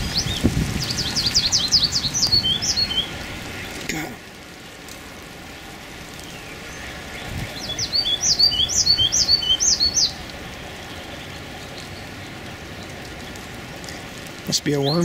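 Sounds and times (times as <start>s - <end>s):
songbird chirping: 0.0s - 15.0s
steady outdoor hiss: 0.0s - 15.0s.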